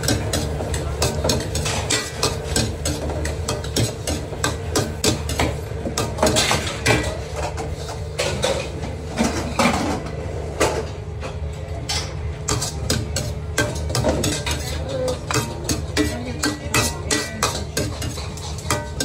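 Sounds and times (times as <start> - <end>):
ladle clanking against metal wok: 0.0 - 8.7, 11.8 - 19.0.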